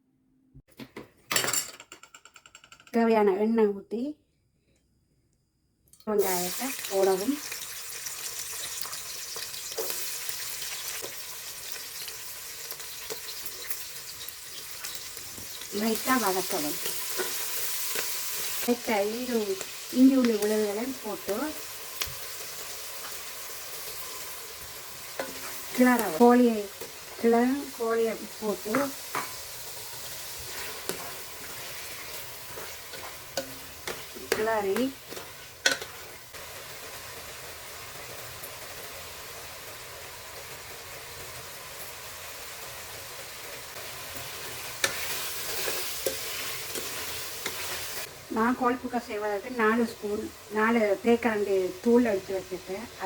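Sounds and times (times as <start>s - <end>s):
onions sizzling in hot oil: 6.1s - 53.0s.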